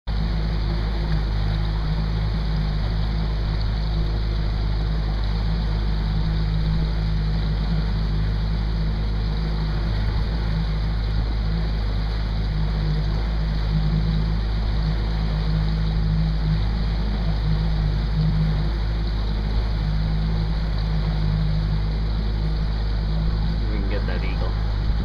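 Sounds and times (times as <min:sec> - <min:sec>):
wind: 0:00.0 - 0:25.0
boat motor droning: 0:00.1 - 0:25.0
water noise: 0:00.1 - 0:25.0.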